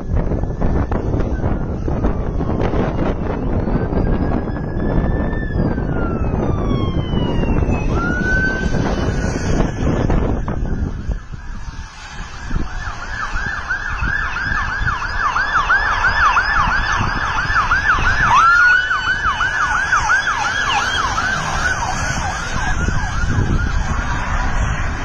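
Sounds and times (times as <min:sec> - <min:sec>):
siren yelping and wailing: 0:00.0 - 0:25.0
wind buffeting microphone: 0:00.0 - 0:25.0.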